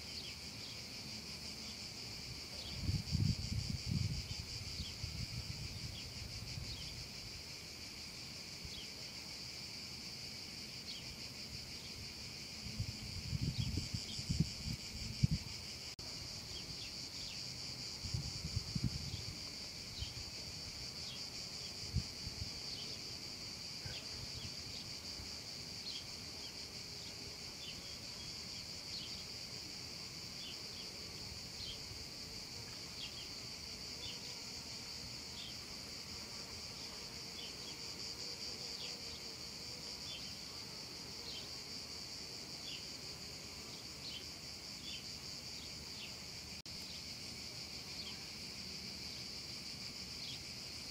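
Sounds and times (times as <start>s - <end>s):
cicadas singing: 0.0s - 50.9s.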